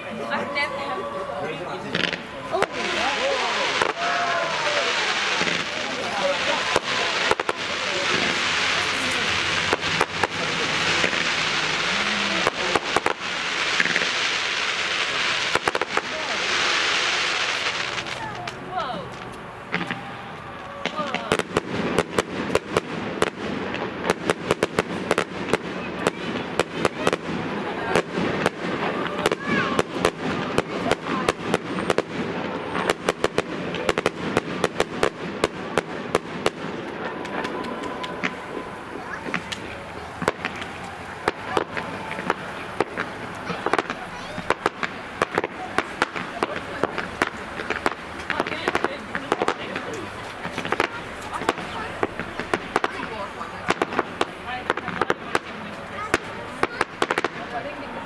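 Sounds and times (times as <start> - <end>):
fireworks exploding: 0.0 - 58.0.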